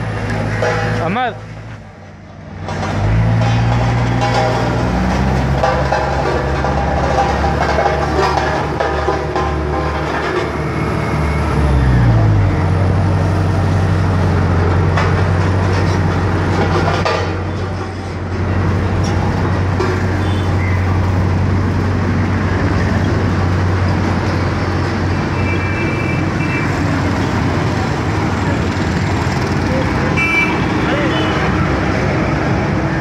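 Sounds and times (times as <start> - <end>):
road roller diesel engine humming: 0.0 - 33.0
road traffic noise: 0.0 - 33.0.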